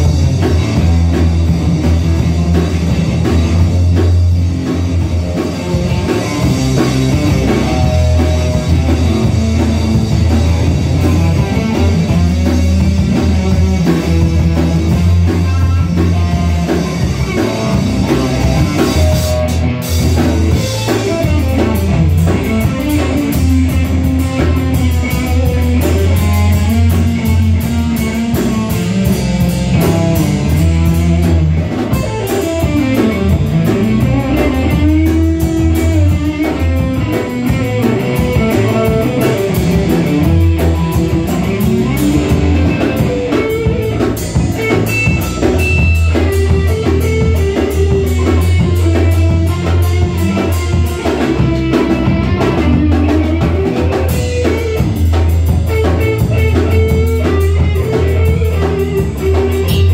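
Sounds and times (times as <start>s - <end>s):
drum kit beat: 0.0s - 59.9s
electric bass line: 0.0s - 59.9s
electric guitar: 0.0s - 59.9s.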